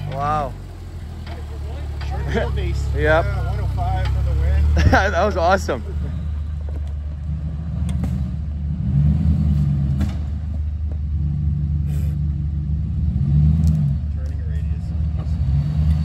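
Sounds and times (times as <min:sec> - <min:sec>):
truck engine rumbling at low revs: 0:00.0 - 0:16.0.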